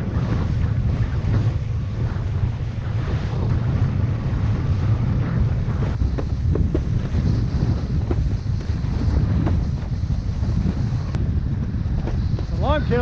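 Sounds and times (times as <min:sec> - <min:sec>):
board skimming water: 0:00.0 - 0:13.0
wind buffeting microphone: 0:00.0 - 0:13.0.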